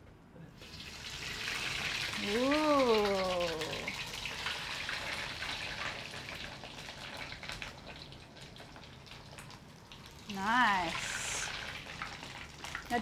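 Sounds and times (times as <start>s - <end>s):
deep-frying sizzle with pops: 0.6s - 13.0s.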